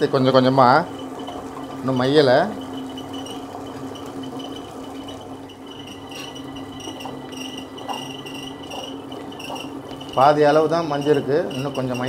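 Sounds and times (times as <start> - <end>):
wet grinder humming: 0.0 - 12.0
pulsing high tone: 2.3 - 12.0.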